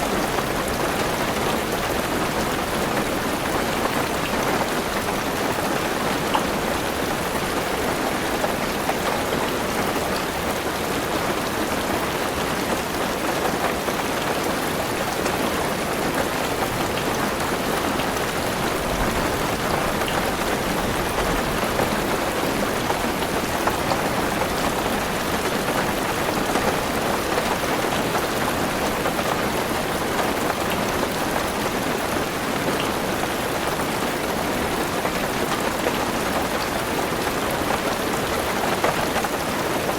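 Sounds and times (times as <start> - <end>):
heavy rain on car roof: 0.0 - 39.9.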